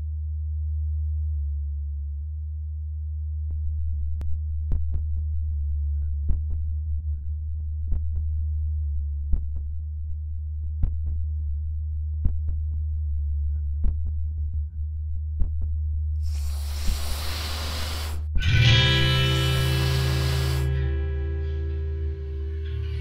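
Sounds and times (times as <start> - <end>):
low hum tone: 0.0 - 23.0.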